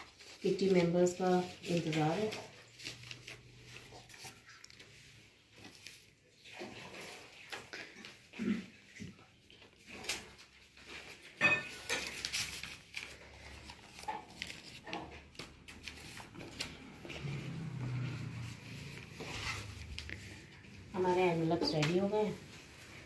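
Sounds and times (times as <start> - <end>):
objects being handled: 0.0 - 23.0.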